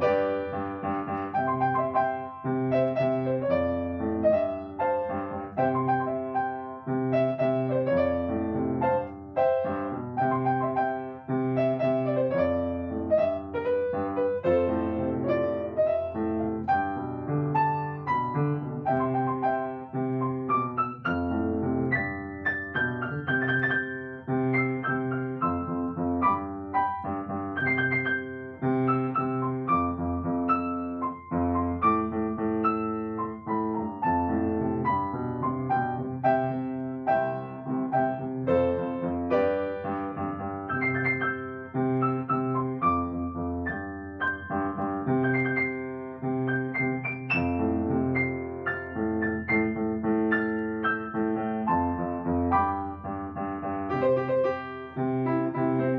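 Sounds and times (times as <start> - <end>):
solo piano music: 0.0 - 55.9.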